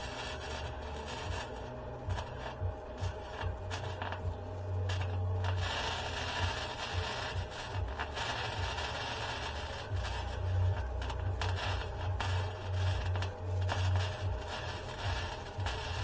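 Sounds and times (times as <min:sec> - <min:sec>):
arc welding crackling sizzle: 0:00.0 - 0:16.0
low electrical buzz: 0:00.0 - 0:16.0.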